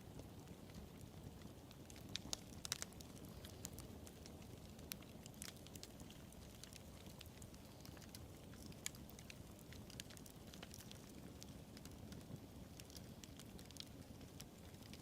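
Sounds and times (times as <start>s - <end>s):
wood fire crackling: 0.0s - 15.0s
fire pops: 0.1s - 15.0s.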